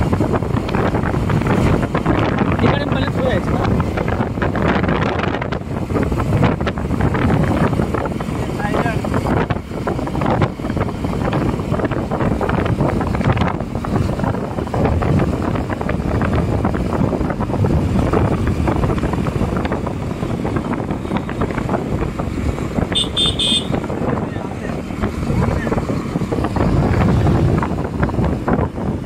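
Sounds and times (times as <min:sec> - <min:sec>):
road and engine noise: 0:00.0 - 0:29.0
wind buffeting microphone: 0:00.0 - 0:29.0.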